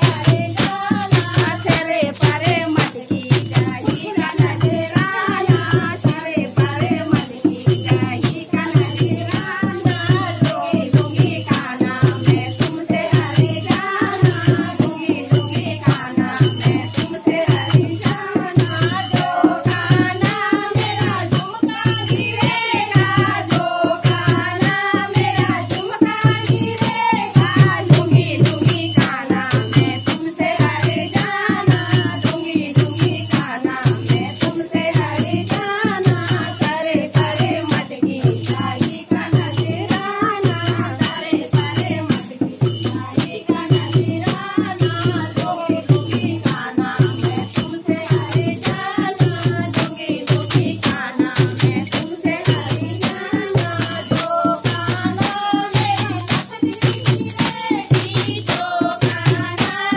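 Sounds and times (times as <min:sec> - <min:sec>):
drum beat: 0:00.0 - 0:59.9
jingling shaker: 0:00.0 - 0:59.9.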